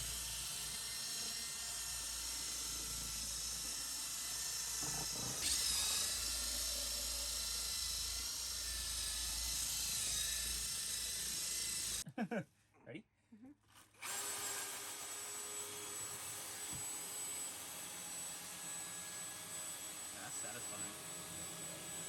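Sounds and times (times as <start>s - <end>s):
power drill scrubbing floor: 0.0s - 12.0s, 14.0s - 22.0s.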